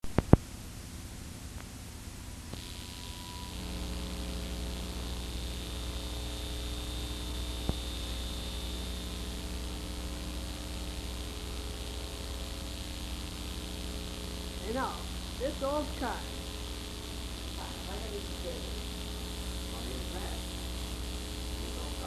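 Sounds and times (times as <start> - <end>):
electrical mains hum: 0.0 - 22.0
tape hiss: 0.0 - 22.0.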